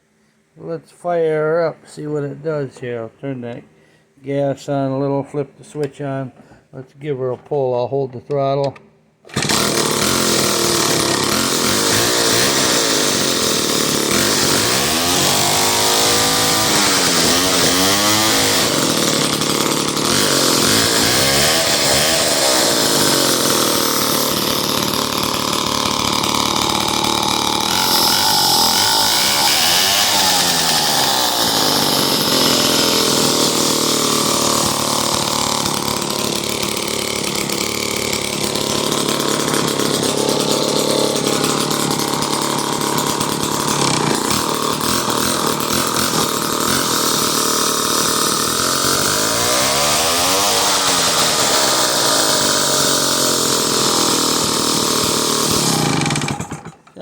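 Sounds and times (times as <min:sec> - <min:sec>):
chainsaw engine running and revving: 0:09.3 - 0:56.8.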